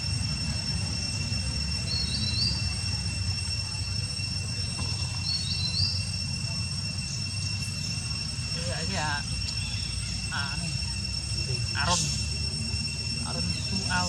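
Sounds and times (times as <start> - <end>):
constant low rumble: 0.0 - 14.0
high insect trilling: 0.0 - 14.0
rising bird chirp: 1.1 - 14.0.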